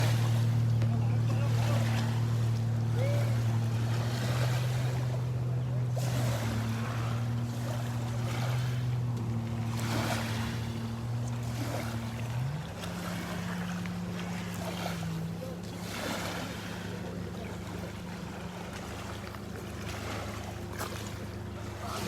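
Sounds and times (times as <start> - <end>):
lapping water: 0.0 - 22.0
low motor hum: 0.0 - 22.0.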